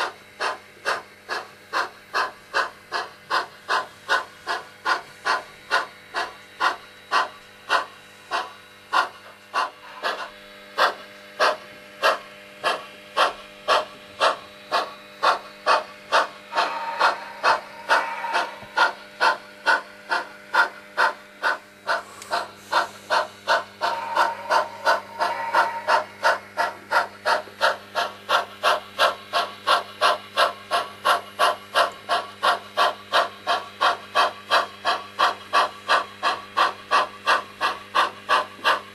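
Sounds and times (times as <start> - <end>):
steam hiss: 0.0 - 38.8
steam exhaust chuffs from speaker: 0.0 - 38.9.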